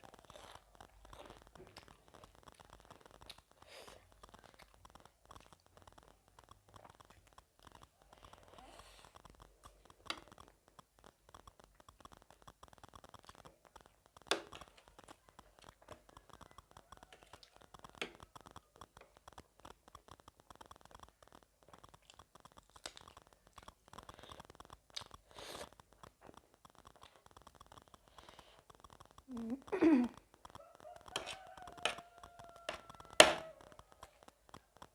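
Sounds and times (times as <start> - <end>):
crunchy snack chewing: 0.0 - 34.9.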